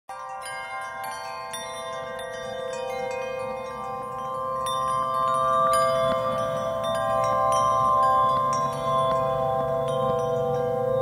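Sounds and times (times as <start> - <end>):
chiming bell-like music: 0.1 - 11.0.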